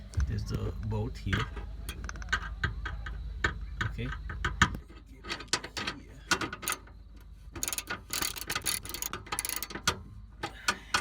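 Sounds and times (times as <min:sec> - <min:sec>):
light metallic clicks and rattles: 0:00.8 - 0:11.0.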